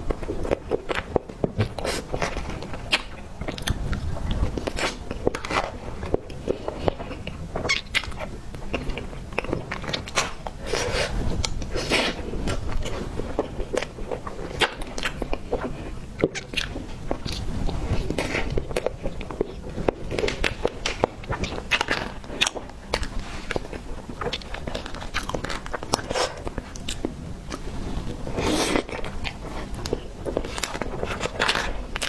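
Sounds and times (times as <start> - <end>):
chewing and biting cake: 0.0 - 32.0.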